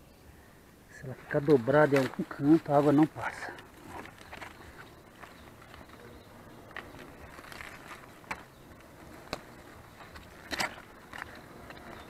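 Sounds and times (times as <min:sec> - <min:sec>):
footsteps in dry leaves: 0:01.0 - 0:12.0.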